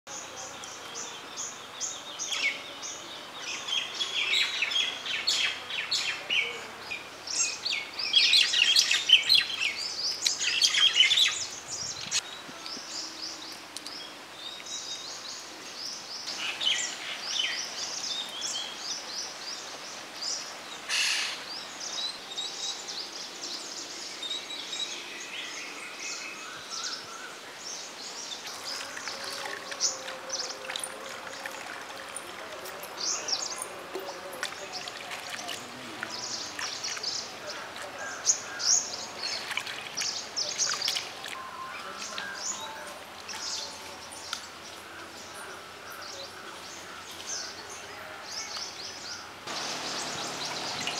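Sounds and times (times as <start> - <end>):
small birds chirping: 0.1 - 50.9.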